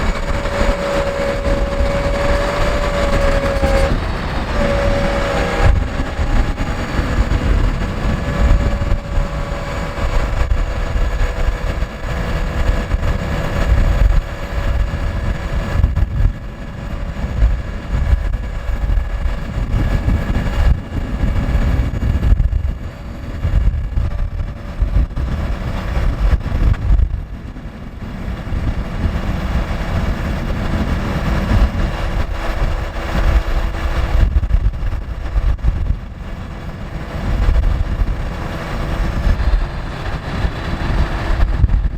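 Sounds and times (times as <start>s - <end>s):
truck diesel engine running: 0.0s - 41.9s.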